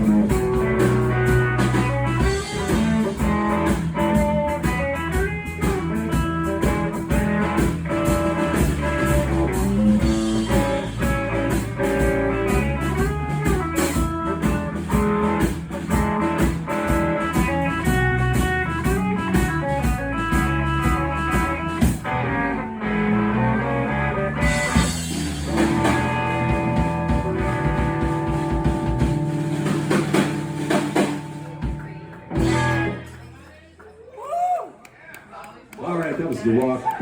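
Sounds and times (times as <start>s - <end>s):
electric guitar: 0.0s - 33.3s
blues band playing: 0.0s - 33.4s.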